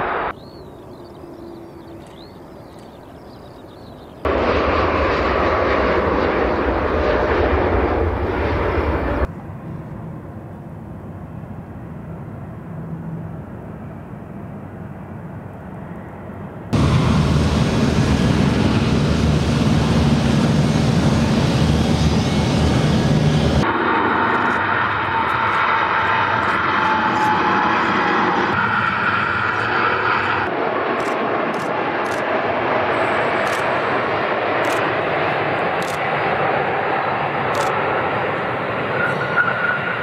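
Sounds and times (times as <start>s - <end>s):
jet engines running: 4.2s - 40.0s.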